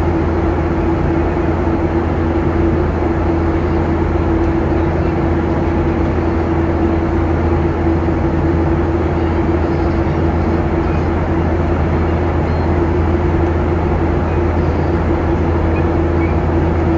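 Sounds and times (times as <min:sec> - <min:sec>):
constant hum: 0:00.0 - 0:16.9
jet engines droning: 0:00.0 - 0:16.9.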